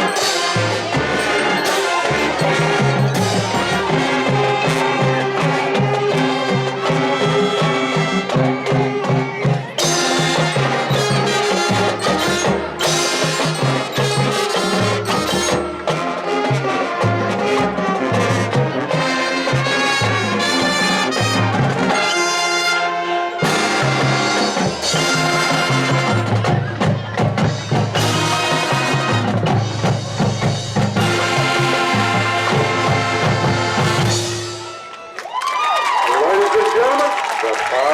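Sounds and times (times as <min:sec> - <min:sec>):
drumline beat: 0:00.0 - 0:22.3, 0:23.4 - 0:35.2
brass playing: 0:00.0 - 0:26.7, 0:27.8 - 0:35.1.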